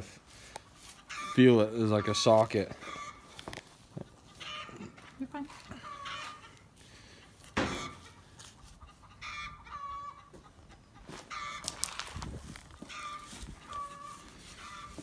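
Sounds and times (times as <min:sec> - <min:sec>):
chickens squawking and clucking: 0:00.0 - 0:15.0.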